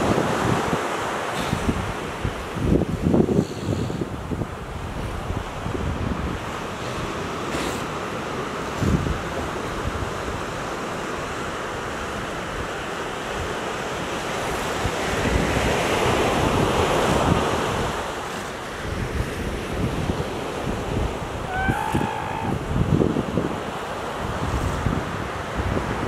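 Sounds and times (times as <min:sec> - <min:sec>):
ocean surf on sandy beach: 0:00.0 - 0:26.0
wind buffeting microphone: 0:00.0 - 0:26.0.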